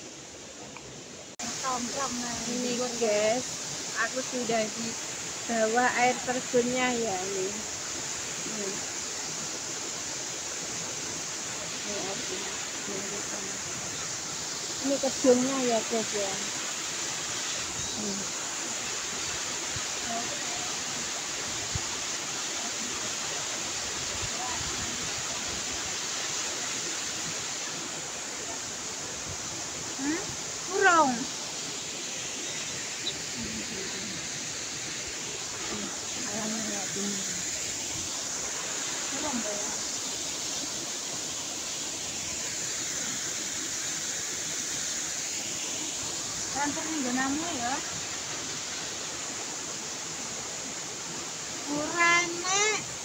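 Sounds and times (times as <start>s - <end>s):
waterfall rushing into pool: 0.0s - 53.0s.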